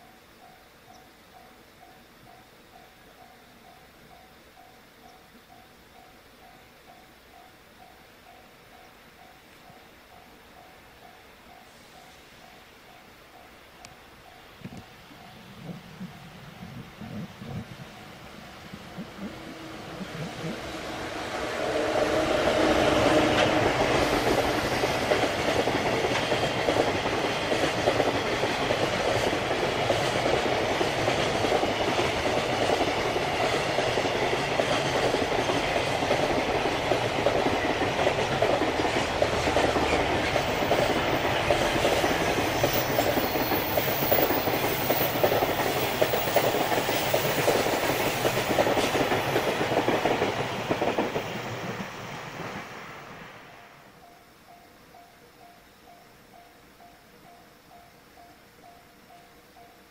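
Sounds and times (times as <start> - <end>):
freight train passing: 0.0 - 55.6.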